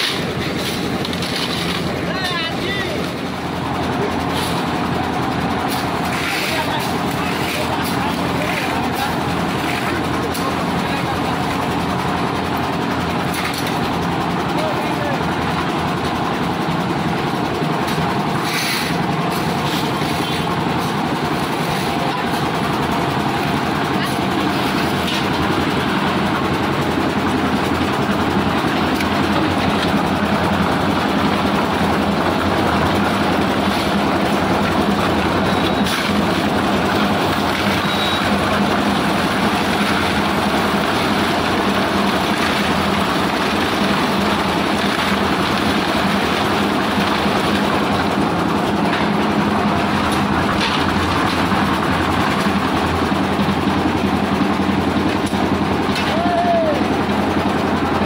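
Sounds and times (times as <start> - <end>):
concrete mixer tumbling stones: 0.0 - 14.0, 17.8 - 56.4.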